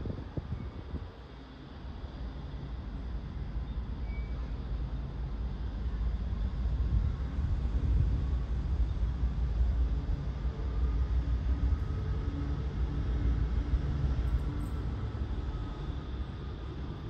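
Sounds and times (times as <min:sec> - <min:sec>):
diesel locomotive engines rumbling: 0:00.0 - 0:17.0.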